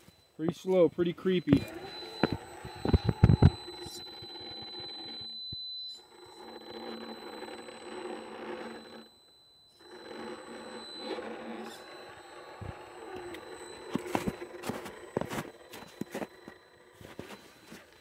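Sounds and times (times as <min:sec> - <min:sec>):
toy vehicle electric motor whining: 0:01.4 - 0:18.0.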